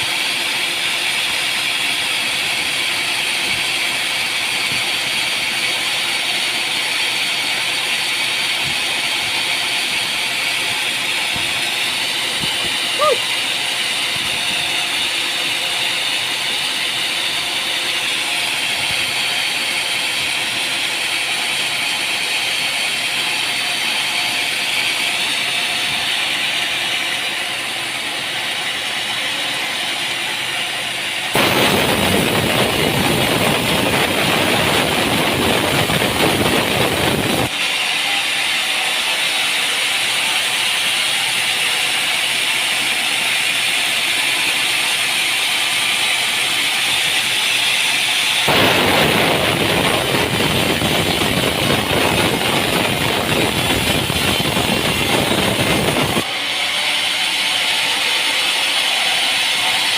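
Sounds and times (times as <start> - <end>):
loud broadband machine noise: 0.0 - 59.9
sawmill machinery hissing: 0.0 - 59.9.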